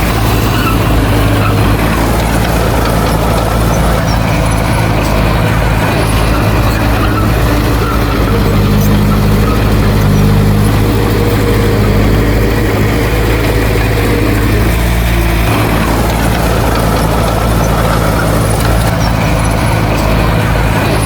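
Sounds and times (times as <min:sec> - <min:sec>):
heavy diesel machinery engine: 0:00.0 - 0:21.0.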